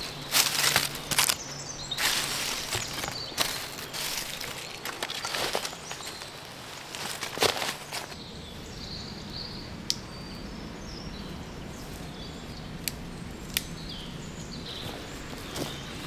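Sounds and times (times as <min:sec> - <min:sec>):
low forest background: 0:00.0 - 0:16.0
small birds chirping: 0:00.0 - 0:16.0.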